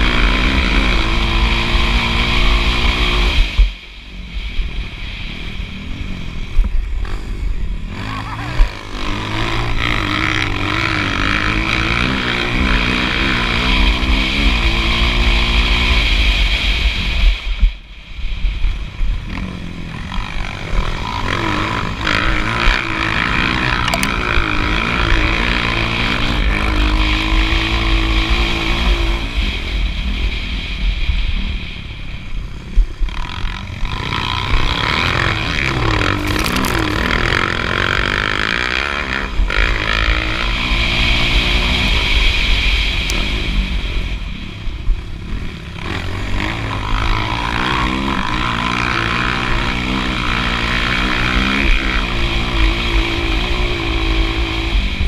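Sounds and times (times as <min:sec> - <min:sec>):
motocross bike engine revving: 0:00.0 - 0:17.6, 0:18.7 - 0:55.0.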